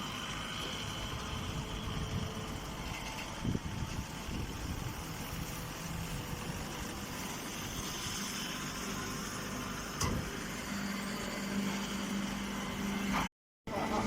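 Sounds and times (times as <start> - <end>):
hay baler running: 0.0 - 14.0.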